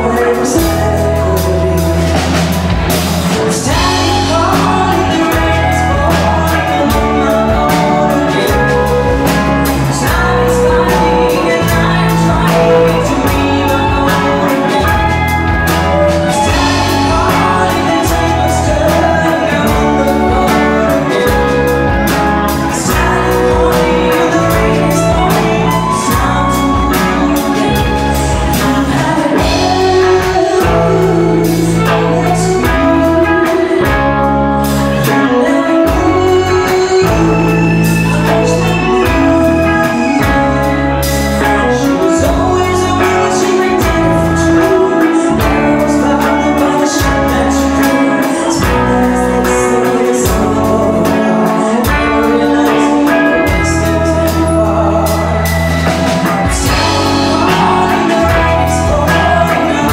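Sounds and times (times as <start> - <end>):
violin: 0.0 - 51.8
bass guitar: 0.0 - 59.9
drums: 0.0 - 59.9
keyboard: 0.0 - 59.9
woman singing: 0.0 - 59.9.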